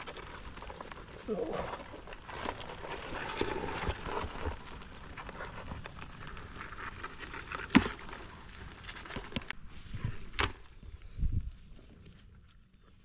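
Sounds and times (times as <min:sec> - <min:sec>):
digging in mud clicks and scrapes: 0:00.0 - 0:10.8.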